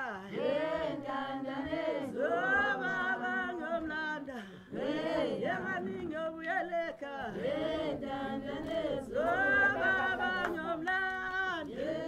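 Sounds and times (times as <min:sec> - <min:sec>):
unaccompanied group singing: 0:00.0 - 0:12.0.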